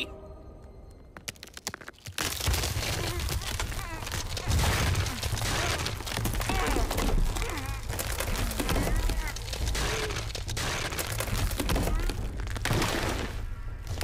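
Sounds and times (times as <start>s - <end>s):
crackling deep rumble: 1.6s - 14.0s.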